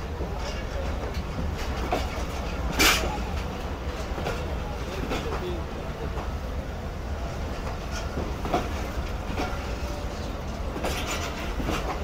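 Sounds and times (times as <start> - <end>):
wheels clacking over rail joints: 0.0 - 6.4, 7.4 - 12.0
train low rumble: 0.0 - 12.0.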